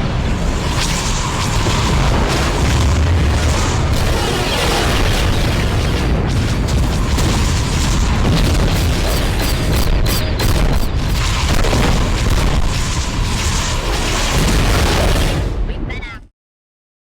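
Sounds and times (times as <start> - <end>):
continuous low rumble: 0.0 - 16.0
booming explosions: 0.0 - 16.2.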